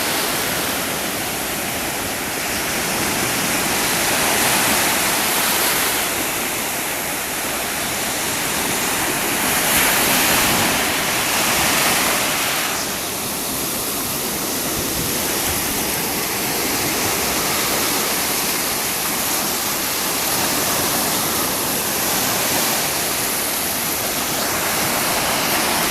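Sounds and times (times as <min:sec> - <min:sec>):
waves breaking on shore: 0:00.0 - 0:25.9.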